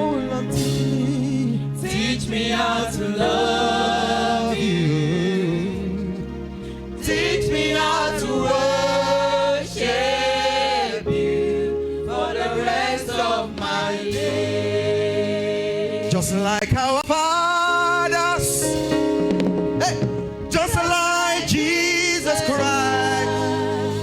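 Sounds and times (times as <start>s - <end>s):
gospel choir singing: 0.0s - 24.0s
held accompaniment chords: 0.0s - 24.0s.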